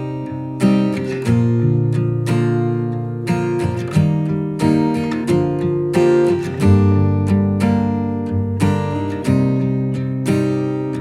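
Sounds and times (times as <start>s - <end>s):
acoustic guitar plucked and strummed: 0.0s - 11.0s.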